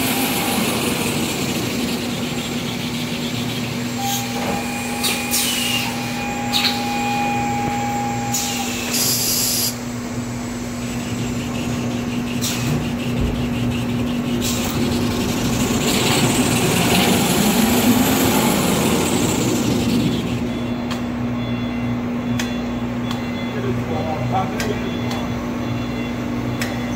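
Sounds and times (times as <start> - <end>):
machine hum: 0.0 - 26.9.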